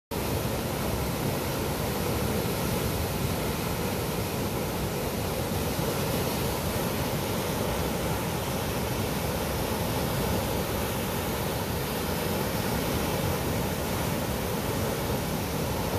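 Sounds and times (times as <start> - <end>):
roar of fast river water: 0.1 - 15.9.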